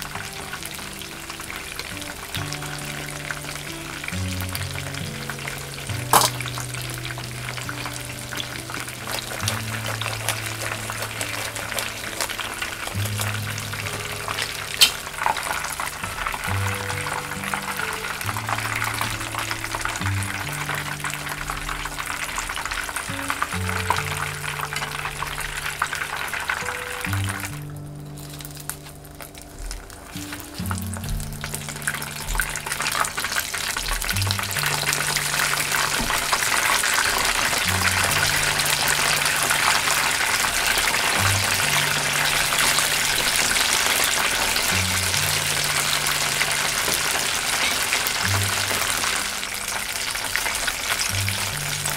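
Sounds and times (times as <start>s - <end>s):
background music with bass: 0.0s - 51.9s
chicken deep-frying in oil: 0.0s - 51.9s.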